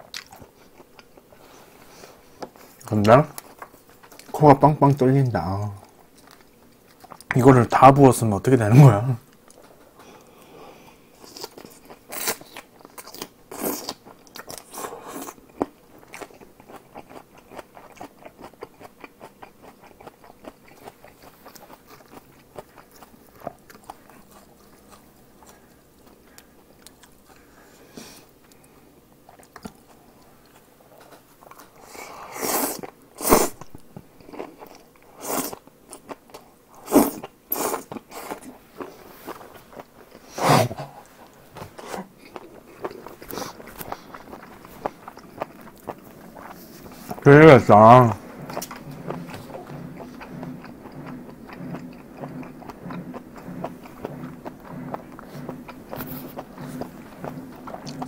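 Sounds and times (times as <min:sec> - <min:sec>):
close chewing and crunching: 0:00.0 - 0:08.1, 0:09.2 - 0:58.0.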